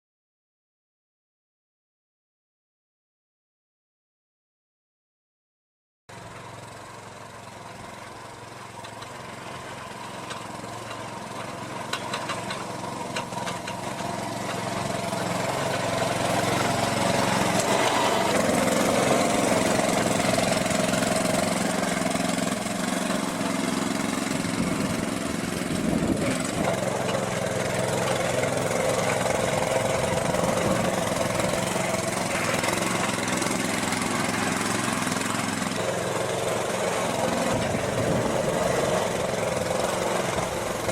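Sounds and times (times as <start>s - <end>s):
small petrol engine running: 6.1s - 40.9s.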